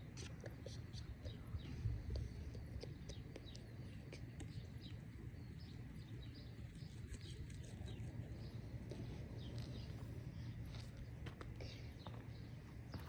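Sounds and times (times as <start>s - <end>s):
low background rumble: 0.0s - 13.0s
small birds chirping: 0.0s - 13.0s.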